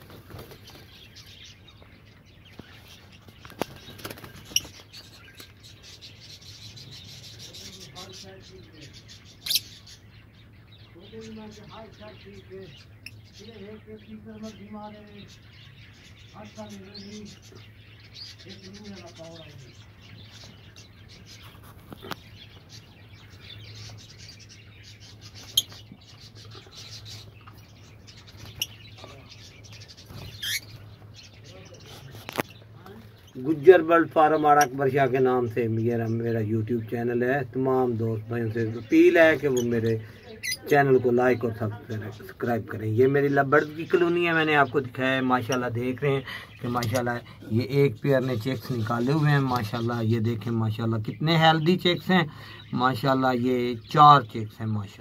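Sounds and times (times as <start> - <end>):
lovebirds chirping and chattering: 0.0 - 55.0.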